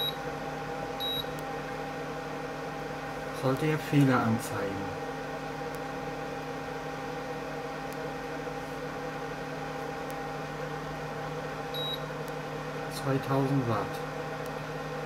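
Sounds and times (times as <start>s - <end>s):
induction hob humming: 0.0s - 15.0s.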